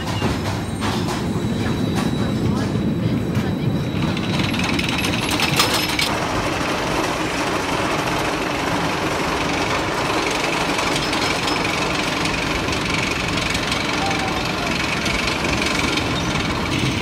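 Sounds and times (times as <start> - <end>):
roller coaster clattering on track: 0.0 - 17.0.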